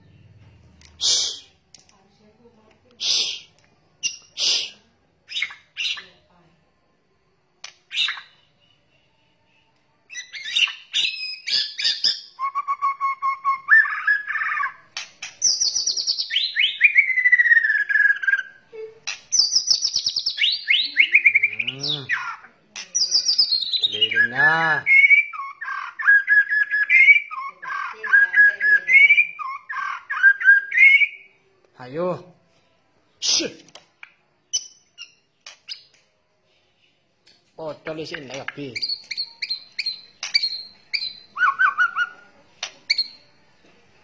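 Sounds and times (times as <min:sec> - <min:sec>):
songbird whistling song: 0:03.0 - 0:06.1, 0:07.6 - 0:31.4, 0:34.0 - 0:37.4, 0:38.5 - 0:43.7.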